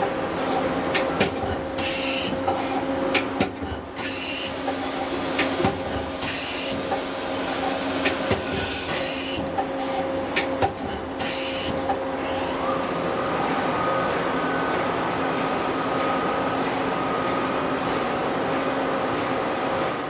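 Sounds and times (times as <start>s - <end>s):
lathe mechanical hum: 0.0s - 20.0s.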